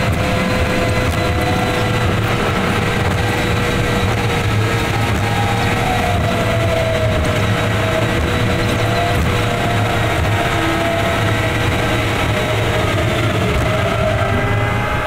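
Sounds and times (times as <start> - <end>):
falling whine: 0.0 - 15.0
truck cab rumble: 0.0 - 15.0.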